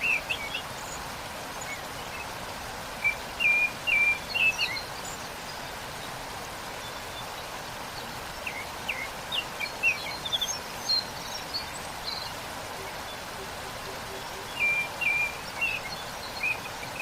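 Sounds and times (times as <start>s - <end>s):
small songbirds chirping: 0.0s - 17.0s
waterfall rushing: 0.0s - 17.0s.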